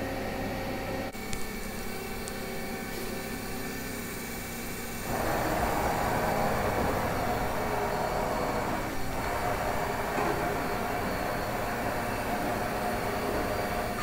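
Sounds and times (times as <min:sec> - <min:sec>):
machine hum: 0:00.0 - 0:14.0
loud noisy machine running: 0:01.8 - 0:14.0.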